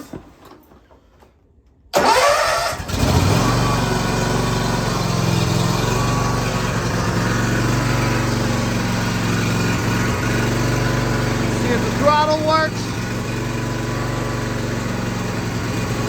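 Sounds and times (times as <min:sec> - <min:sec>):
lawn tractor engine running: 0:01.9 - 0:16.0.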